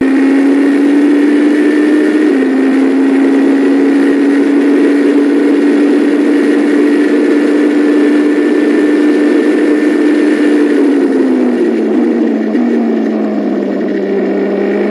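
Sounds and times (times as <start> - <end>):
racing car engine high note: 0.0 - 14.9.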